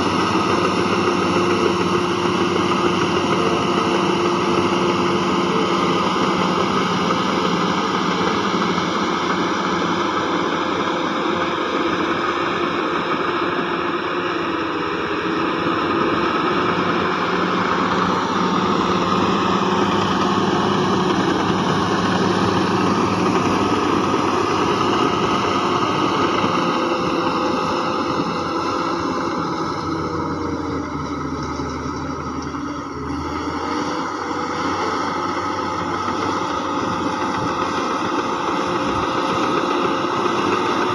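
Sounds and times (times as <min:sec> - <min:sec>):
heavy diesel engine working: 0:00.0 - 0:40.9.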